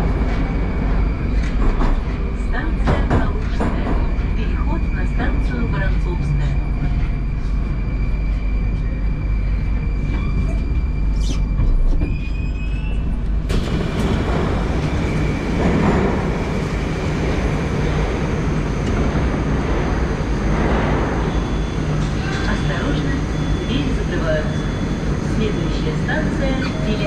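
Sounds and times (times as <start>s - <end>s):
train doors opening: 0.0s - 7.5s, 9.7s - 27.0s
busy platform noise: 0.0s - 27.0s
metro train braking: 0.0s - 27.0s.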